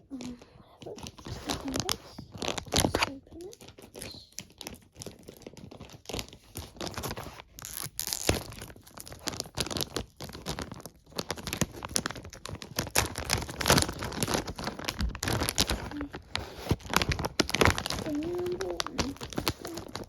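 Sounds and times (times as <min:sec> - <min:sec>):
packaging being torn and crinkled: 0:00.0 - 0:20.0.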